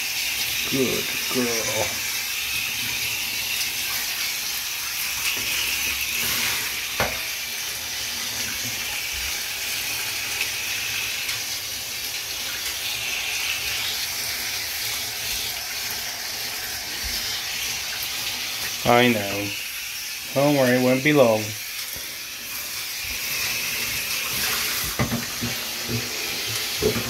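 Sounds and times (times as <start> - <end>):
shower water spraying: 0.0 - 27.0.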